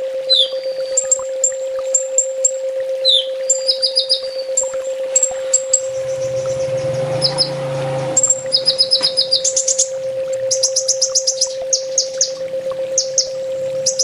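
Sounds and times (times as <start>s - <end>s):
steady low hum: 0.0s - 14.0s
sunbird chirps and trills: 0.3s - 2.4s, 3.0s - 14.0s.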